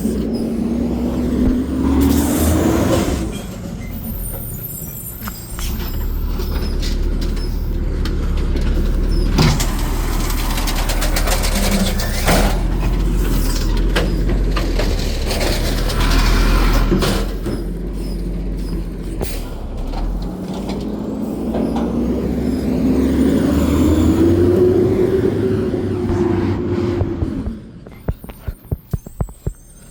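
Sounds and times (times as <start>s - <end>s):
garbage truck engine revving: 0.0s - 29.9s.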